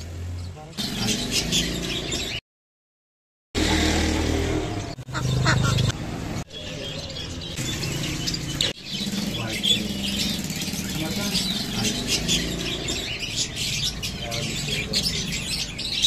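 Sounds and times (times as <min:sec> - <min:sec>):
birds chirping and chattering: 0:00.0 - 0:02.4, 0:03.6 - 0:16.0
street noise: 0:00.0 - 0:02.4, 0:03.6 - 0:16.0.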